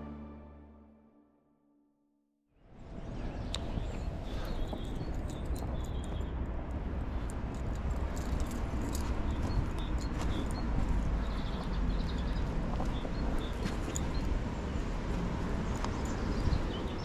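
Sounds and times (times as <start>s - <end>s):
wind on microphone: 2.8s - 17.0s.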